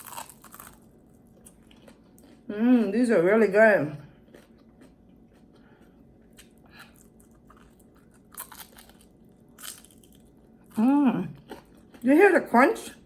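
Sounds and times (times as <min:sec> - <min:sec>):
crunching and chewing fried chicken: 0:00.0 - 0:02.5, 0:04.0 - 0:12.2.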